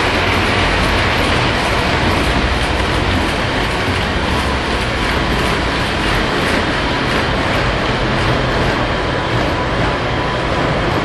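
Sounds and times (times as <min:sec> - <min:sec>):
model trains running: 0:00.0 - 0:11.0.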